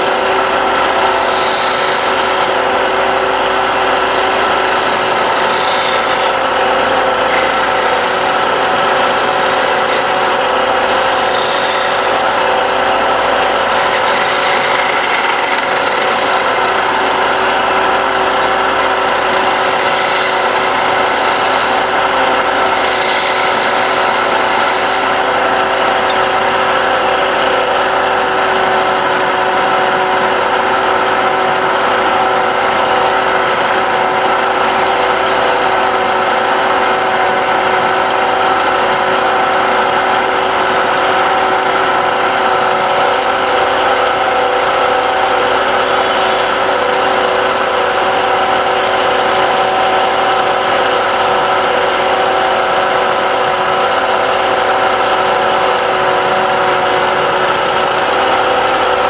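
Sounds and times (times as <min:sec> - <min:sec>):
tool scraping spinning wood: 0:00.0 - 0:59.0
wood lathe running: 0:00.0 - 0:59.0.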